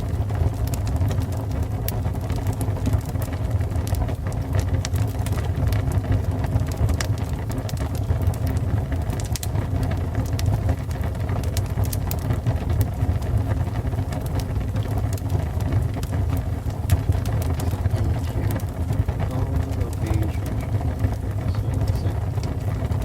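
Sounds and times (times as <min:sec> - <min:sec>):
burning wood crackling and popping: 0:00.0 - 0:23.0
low roar of flames: 0:00.0 - 0:23.0.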